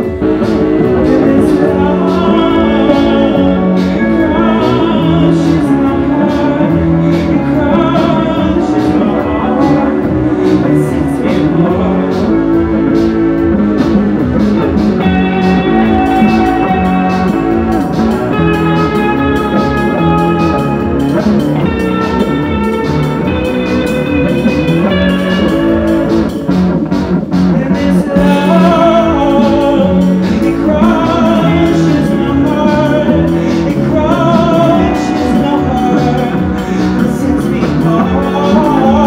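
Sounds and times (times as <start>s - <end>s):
person singing: 0.0s - 26.7s, 27.3s - 39.0s
electric guitar: 0.0s - 39.0s
keyboard: 0.0s - 39.0s
steady drum beat: 0.0s - 39.0s.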